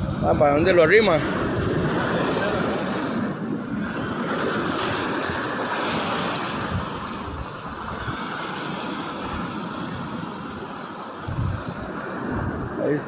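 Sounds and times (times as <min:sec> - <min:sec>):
sea surf washing: 0:00.0 - 0:13.0
wind buffeting microphone: 0:00.0 - 0:13.0.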